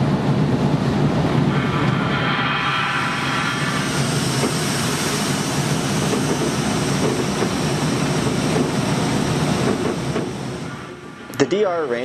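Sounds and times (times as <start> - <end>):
electric locomotive running: 0.0 - 12.0.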